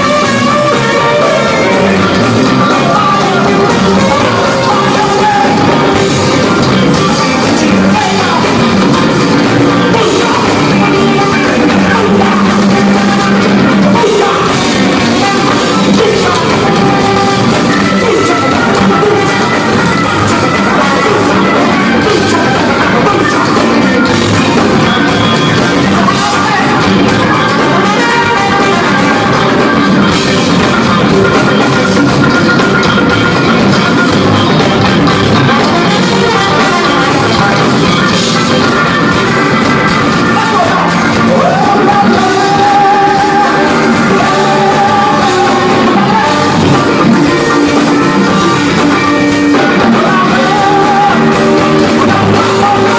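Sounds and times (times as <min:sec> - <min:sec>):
rock music with singing: 0:00.0 - 0:52.9.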